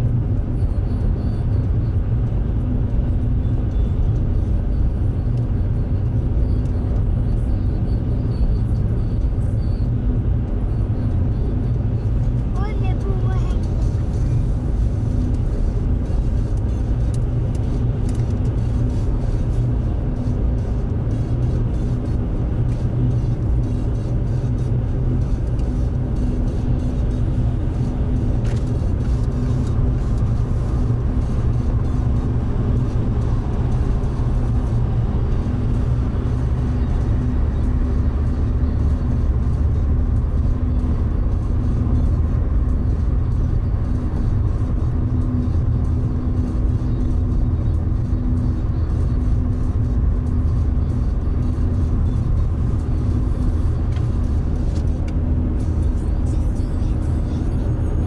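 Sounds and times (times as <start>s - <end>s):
in-cabin road noise: 0.0s - 58.0s.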